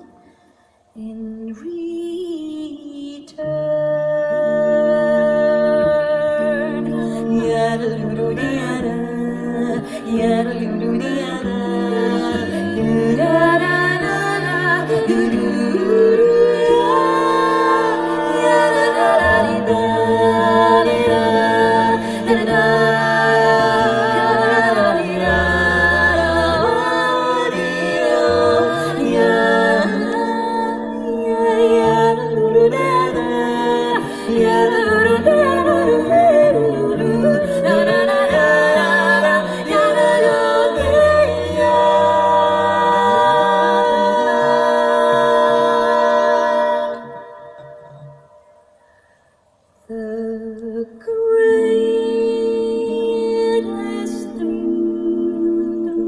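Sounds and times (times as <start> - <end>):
a cappella group singing: 0.0 - 56.0.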